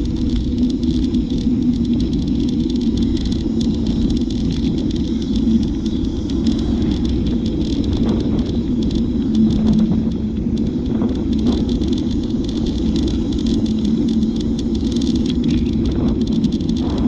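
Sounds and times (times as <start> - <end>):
bike riding rumble: 0.0 - 17.0
light rattling clicks: 0.0 - 17.0
low hum: 0.0 - 17.0.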